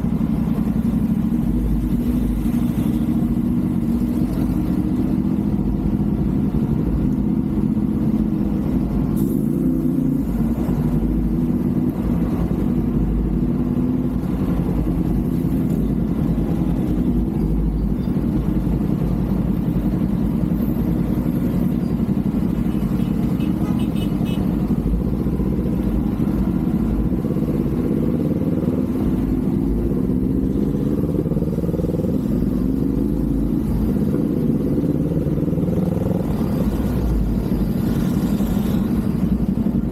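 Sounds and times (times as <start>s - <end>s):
motorcycle engine running: 0.0s - 9.1s, 9.7s - 39.9s.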